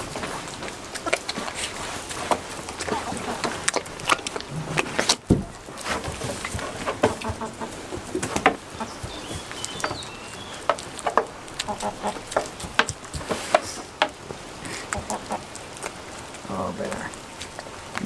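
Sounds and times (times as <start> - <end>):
goats chewing fruit: 0.0 - 18.0.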